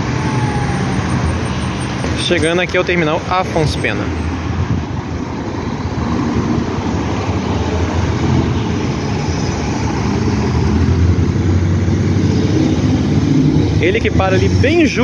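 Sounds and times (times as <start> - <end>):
bus engine drone: 0.0 - 15.0
cars passing close by: 0.0 - 15.0.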